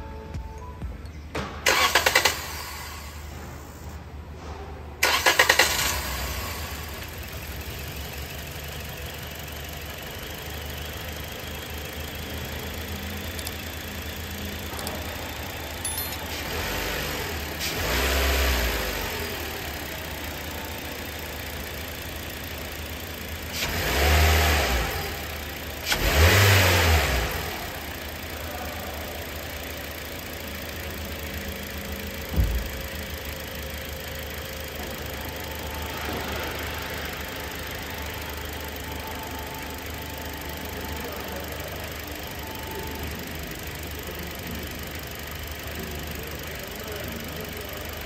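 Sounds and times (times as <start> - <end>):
car engine idling and revving: 0.6 - 48.0.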